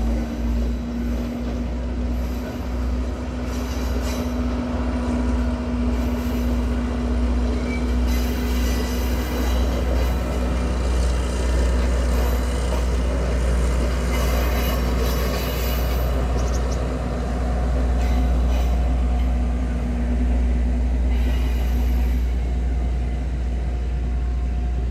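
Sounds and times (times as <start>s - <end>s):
train wheels rumbling: 0.0s - 24.9s.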